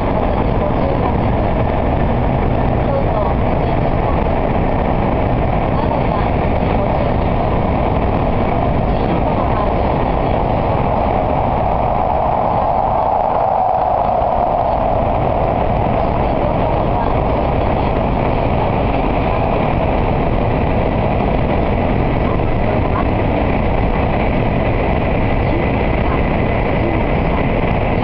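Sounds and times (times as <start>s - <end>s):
train cabin running noise: 0.0s - 28.0s.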